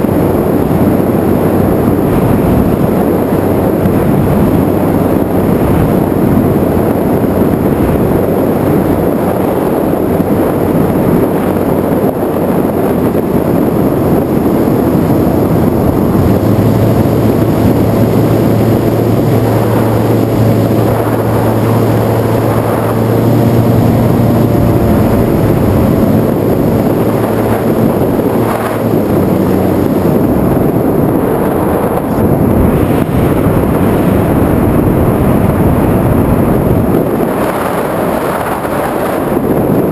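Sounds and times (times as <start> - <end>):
low steady hum: 0.0 - 39.9
motor and propeller drone: 0.0 - 39.9
wind rushing on microphone: 0.0 - 39.9.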